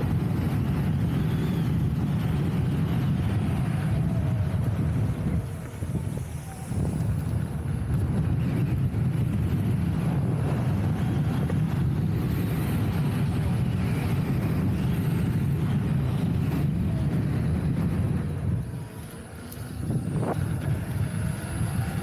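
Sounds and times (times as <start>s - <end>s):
road noise: 0.0s - 22.0s
wind rush on microphone: 0.0s - 22.0s.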